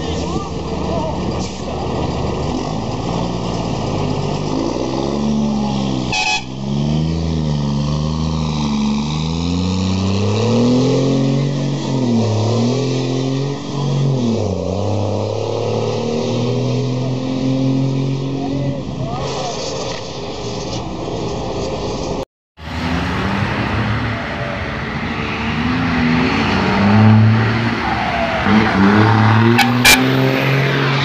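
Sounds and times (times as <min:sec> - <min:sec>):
diesel truck engine revving: 0:00.0 - 0:18.5, 0:22.6 - 0:31.0.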